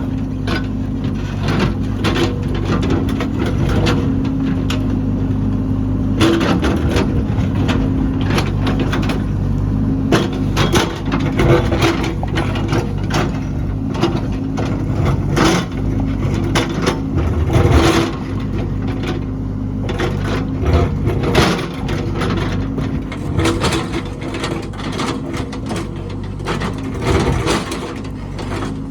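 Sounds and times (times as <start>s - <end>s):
diesel engine running under load: 0.0s - 28.9s
metal clanks and crunching: 0.0s - 28.9s.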